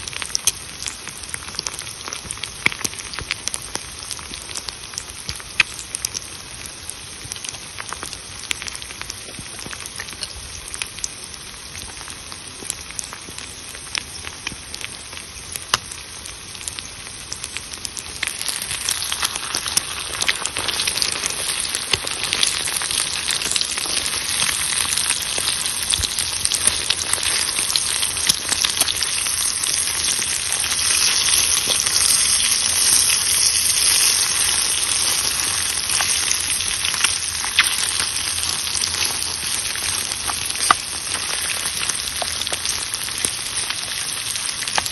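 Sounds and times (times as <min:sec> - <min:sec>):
crackling wood fire: 0:00.0 - 0:44.9
food sizzling in a pan: 0:00.0 - 0:44.9.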